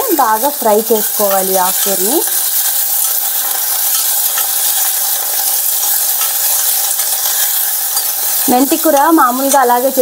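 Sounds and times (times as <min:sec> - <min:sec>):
leaves sizzling in ghee: 0:00.0 - 0:10.0
metal spatula scraping and tapping pan: 0:01.1 - 0:10.0.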